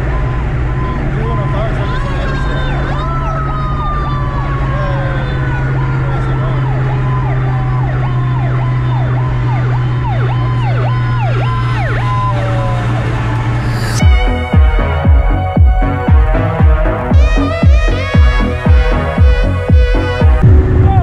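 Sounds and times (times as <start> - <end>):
fire engine siren: 0.0 - 20.8
car engine droning: 0.0 - 21.0.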